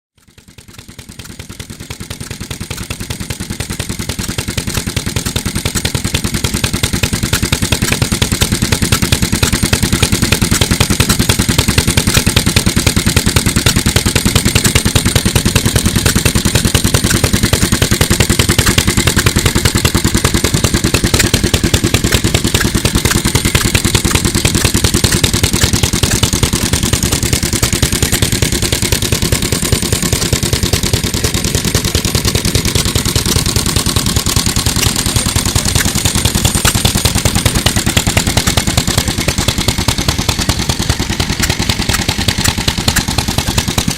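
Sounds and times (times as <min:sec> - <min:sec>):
stationary engine running: 0:00.2 - 0:43.9.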